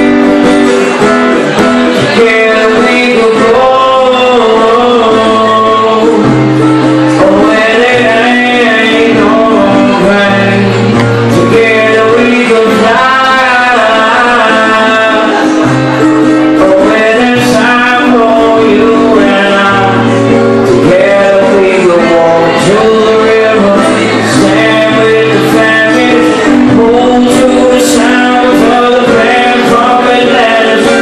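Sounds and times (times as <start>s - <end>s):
acoustic guitar: 0.0s - 31.0s
man singing: 0.0s - 31.0s.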